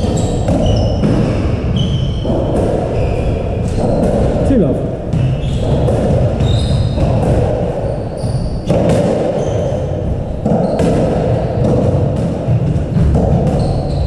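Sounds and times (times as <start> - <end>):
shoes squeaking on wooden floor: 0.0 - 14.0
squash ball hitting rackets and walls: 0.0 - 14.0.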